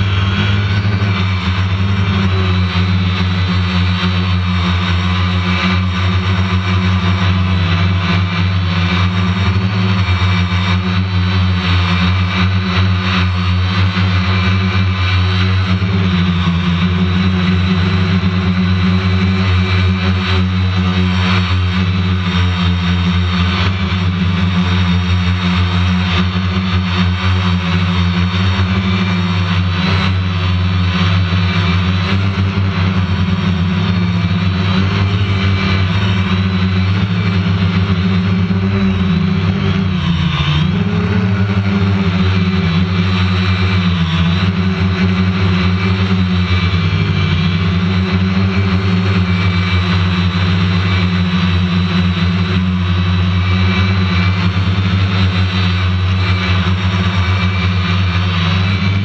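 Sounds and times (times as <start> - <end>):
drone motors buzzing: 0.0 - 59.0.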